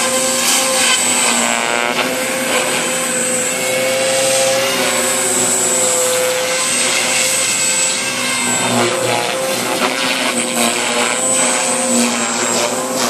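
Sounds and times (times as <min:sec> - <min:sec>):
model helicopter whine: 0:00.0 - 0:13.0.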